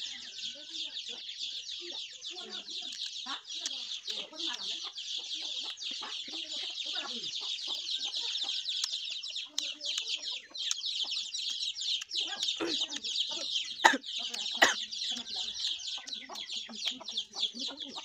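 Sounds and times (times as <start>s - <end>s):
chickens clucking: 0.0s - 18.0s
high-pitched chorus of rapid chirps: 0.0s - 18.0s.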